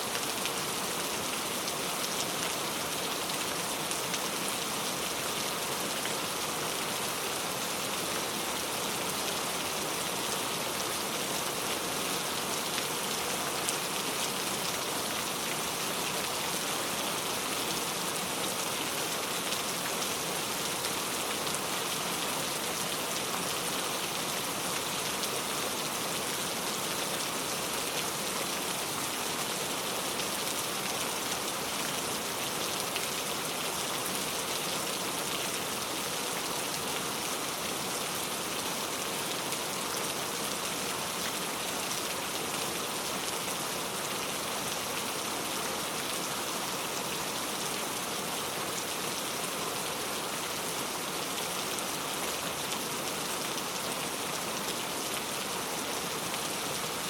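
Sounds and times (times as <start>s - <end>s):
heavy rain on a road: 0.0s - 57.0s.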